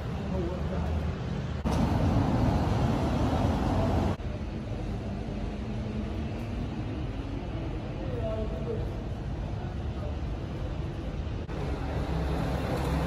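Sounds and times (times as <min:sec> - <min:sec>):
vehicle rumbling: 0:00.0 - 0:13.0.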